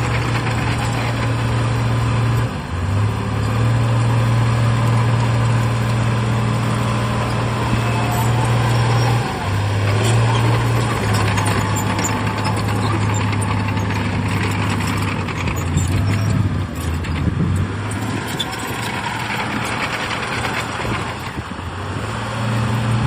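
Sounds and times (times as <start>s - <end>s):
machinery rattling and clanking: 0.0s - 21.6s
heavy diesel engine humming: 0.0s - 23.0s.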